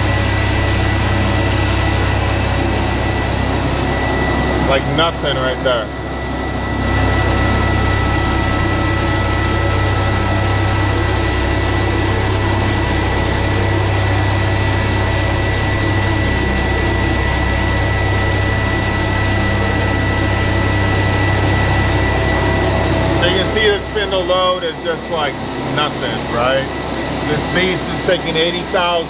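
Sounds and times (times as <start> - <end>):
milling machine cutting metal: 0.0 - 29.0.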